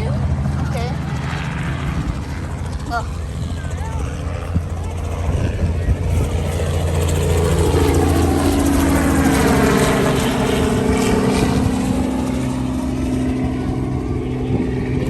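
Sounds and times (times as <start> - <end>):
helicopter flying overhead: 0.0 - 15.0.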